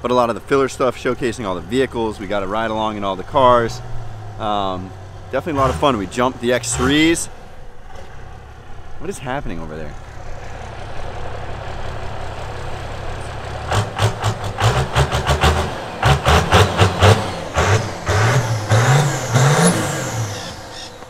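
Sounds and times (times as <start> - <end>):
car engine revving: 0.2 - 9.0, 9.7 - 21.0.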